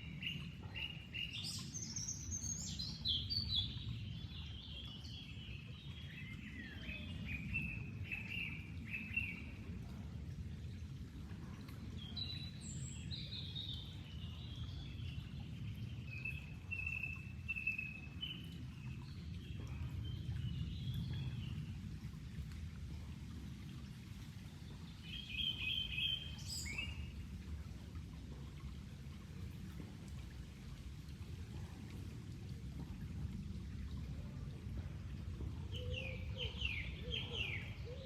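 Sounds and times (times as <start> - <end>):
flowing water rush: 0.0 - 38.0.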